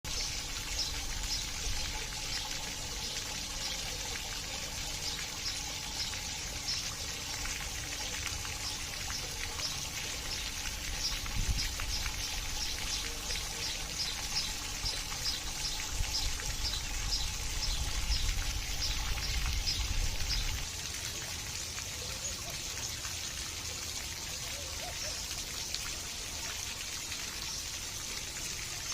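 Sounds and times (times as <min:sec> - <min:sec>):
water trickling and pouring: 0:00.1 - 0:28.9.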